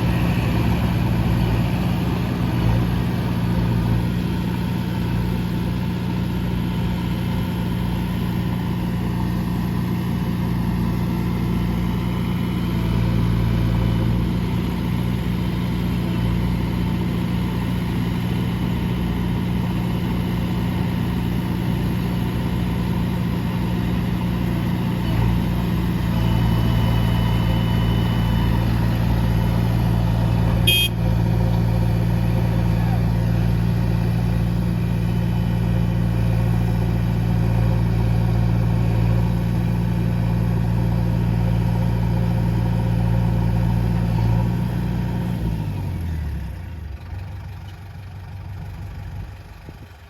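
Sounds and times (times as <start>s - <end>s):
heavy diesel engine running: 0.0s - 50.0s.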